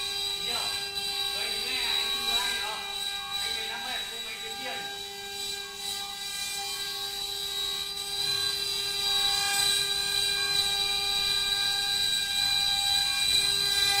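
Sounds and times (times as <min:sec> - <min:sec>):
carving machine spindle whine: 0:00.0 - 0:14.0.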